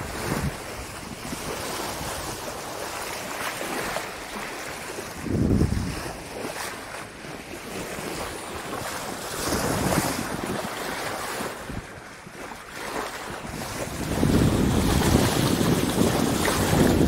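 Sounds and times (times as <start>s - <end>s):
water rushing along boat: 0.0s - 17.0s
wind buffeting microphone: 0.0s - 17.0s.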